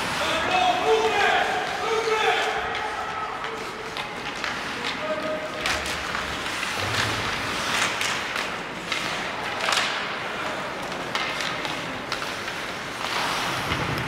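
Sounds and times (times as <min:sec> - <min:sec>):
skate blades scraping ice: 0:00.0 - 0:14.0.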